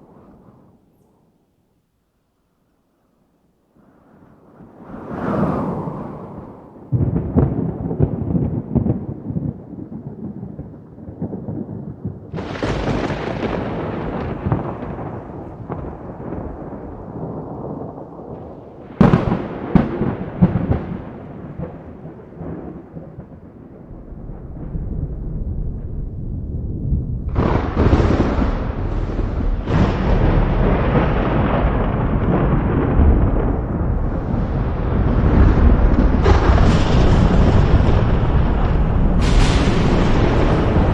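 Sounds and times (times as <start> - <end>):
rolling thunder: 0.0 - 1.2, 3.8 - 40.9
sharp thunder cracks: 4.5 - 40.9.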